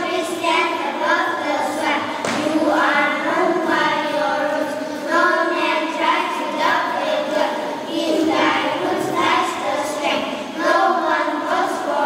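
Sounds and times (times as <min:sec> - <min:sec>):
children reciting in unison: 0:00.0 - 0:12.0.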